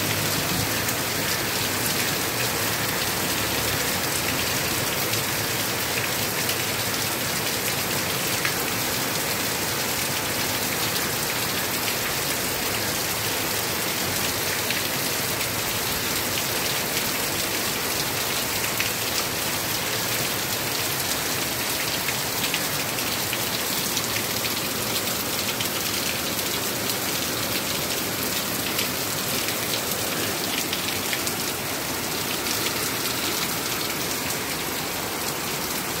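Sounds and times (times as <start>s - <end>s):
heavy rain on pavement: 0.0s - 36.0s.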